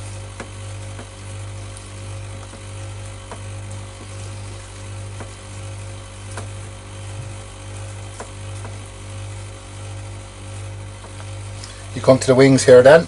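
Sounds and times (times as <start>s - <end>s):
faint clicks and crackles: 0.0s - 12.3s
low hum with hiss: 0.0s - 13.0s.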